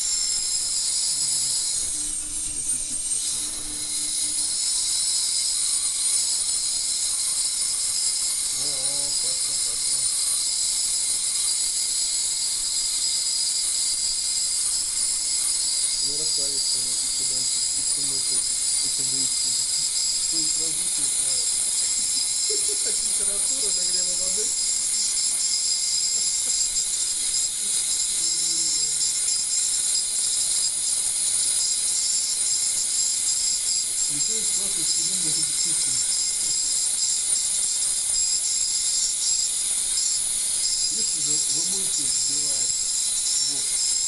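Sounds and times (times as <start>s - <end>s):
ultrasonic waveguide hissing in water: 0.0s - 44.0s.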